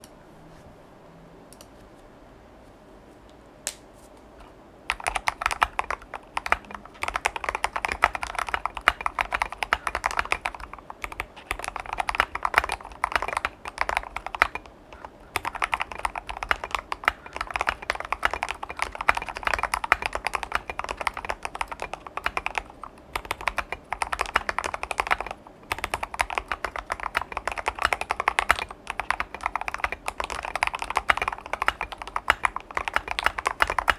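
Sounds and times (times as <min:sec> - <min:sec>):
fast typing on mechanical keyboard: 0:04.9 - 0:33.9.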